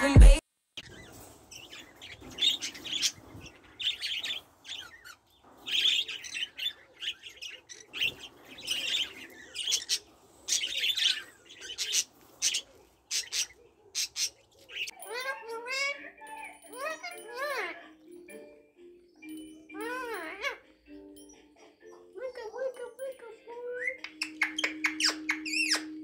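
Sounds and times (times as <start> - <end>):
budgerigars chirping and chattering: 0.8 - 26.0.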